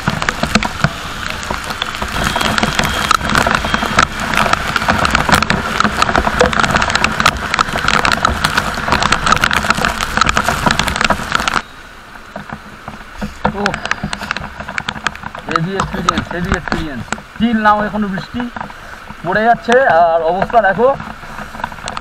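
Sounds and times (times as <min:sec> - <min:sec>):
heavy rain pelting: 0:00.0 - 0:22.0
road and traffic rumble: 0:00.0 - 0:22.0.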